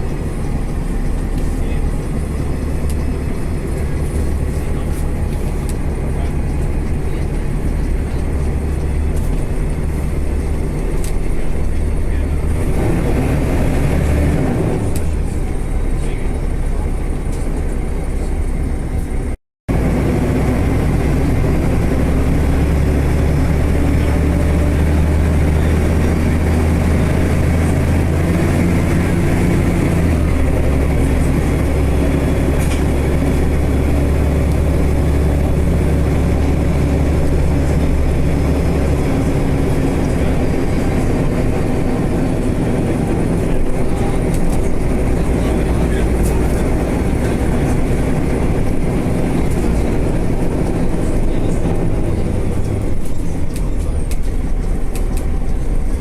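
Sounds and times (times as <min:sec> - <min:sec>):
large vehicle engine drone: 0:00.0 - 0:56.0.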